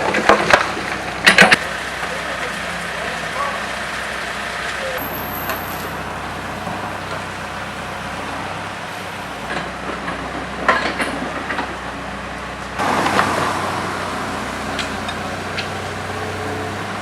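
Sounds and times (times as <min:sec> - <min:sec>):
heavy machinery engine running: 0:00.0 - 0:17.0.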